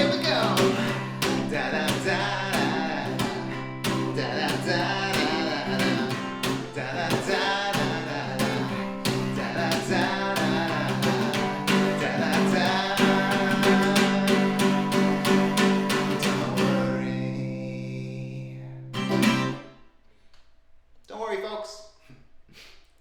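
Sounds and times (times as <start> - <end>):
guitar strumming: 0.0 - 19.9.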